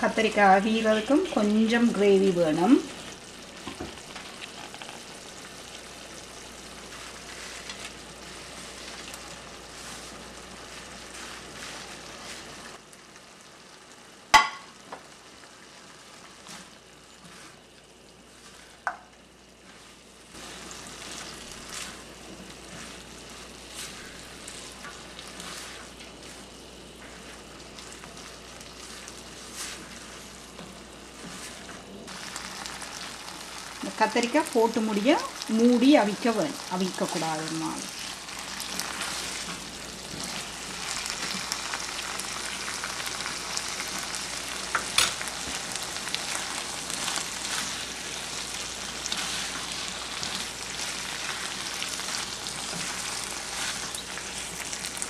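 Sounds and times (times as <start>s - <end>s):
curry sizzling and bubbling in a pan: 0.0s - 55.0s
spatula stirring and scraping: 6.6s - 12.8s, 16.3s - 18.9s, 19.6s - 55.0s.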